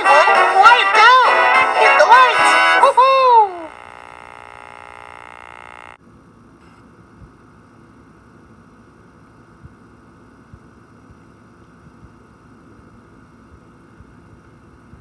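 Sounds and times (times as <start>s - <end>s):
tape hiss: 0.0s - 6.0s, 6.6s - 15.0s.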